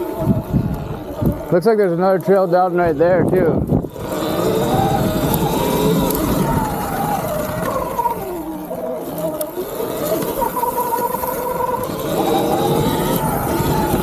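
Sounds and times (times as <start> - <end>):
electric motorbike motor whining: 0.0 - 14.0
low rumble of wind and ground: 0.0 - 14.0.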